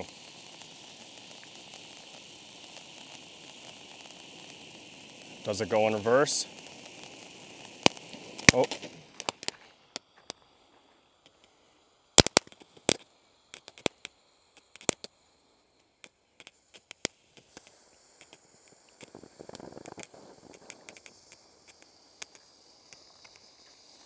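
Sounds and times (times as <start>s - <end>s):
firework hissing: 0.0s - 24.0s
firework pops and cracks: 0.0s - 24.0s.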